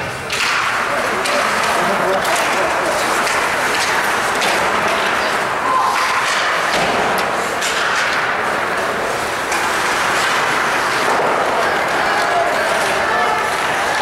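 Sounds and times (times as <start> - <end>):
arena noise: 0.0 - 14.0
skates carving ice: 0.0 - 14.0
sticks clacking on puck: 0.0 - 14.0.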